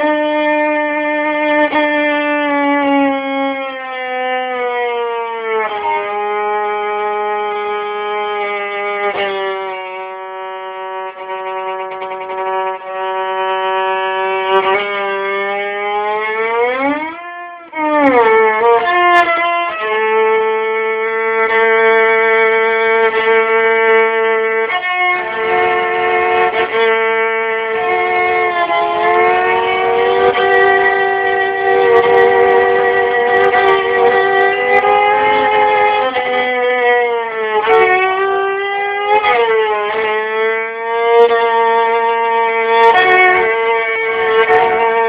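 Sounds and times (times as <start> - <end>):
solo violin bowed notes: 0.0 - 45.0.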